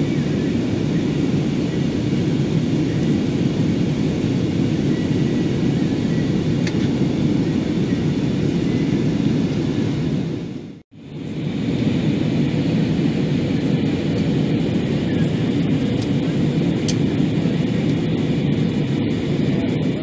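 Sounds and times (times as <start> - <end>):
faint high whine: 0.0 - 20.0
jet cabin engine drone: 0.0 - 20.0.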